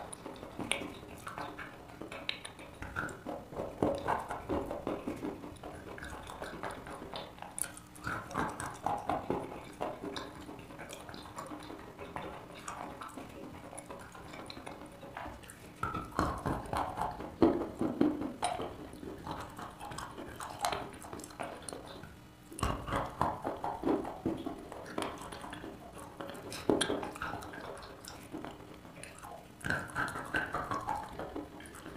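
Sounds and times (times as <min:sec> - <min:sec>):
chalk being chewed: 0:00.0 - 0:17.3, 0:18.4 - 0:31.9
clicky mouth sounds: 0:00.0 - 0:31.9.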